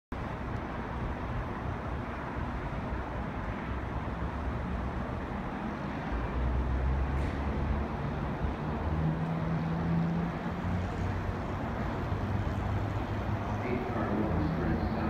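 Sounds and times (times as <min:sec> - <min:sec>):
distant traffic rumble: 0:00.1 - 0:15.0.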